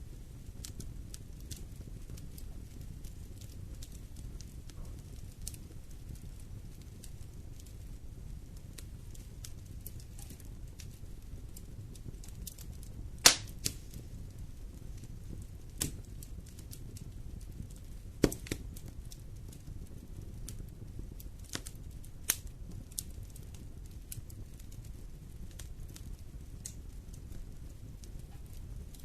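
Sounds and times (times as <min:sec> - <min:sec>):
burning wood popping: 0:00.0 - 0:29.0
low rumble of flames: 0:00.0 - 0:29.0
wood fire crackling: 0:00.0 - 0:29.0.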